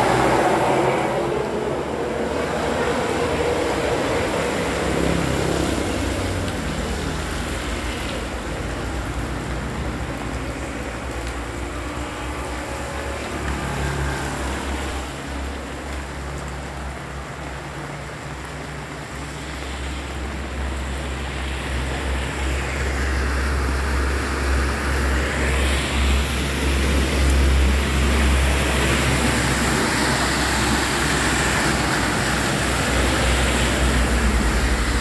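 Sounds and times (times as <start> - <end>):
flowing floodwater: 0.0 - 35.0
rain: 0.0 - 35.0.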